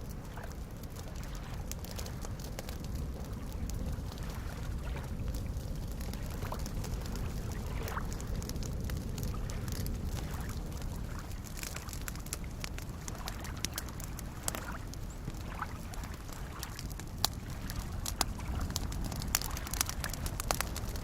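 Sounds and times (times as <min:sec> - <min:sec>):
small waves lapping at shore: 0:00.0 - 0:20.8
campfire crackling and popping: 0:00.0 - 0:21.0.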